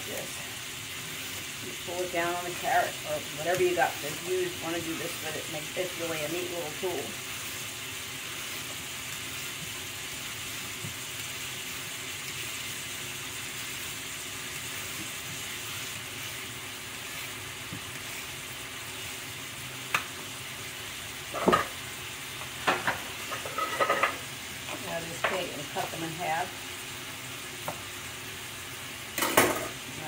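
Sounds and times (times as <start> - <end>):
onions sizzling in a frying pan: 0.0 - 30.0.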